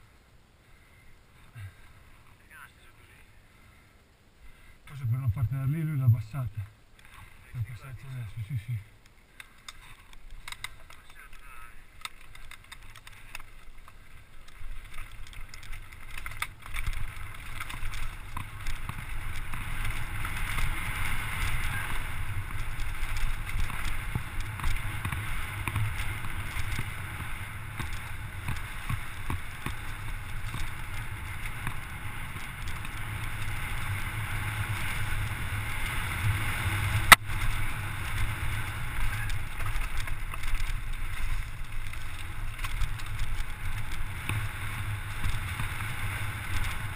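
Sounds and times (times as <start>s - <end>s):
bike rattling: 6.8s - 46.9s
tyres crunching over stones: 9.0s - 46.9s.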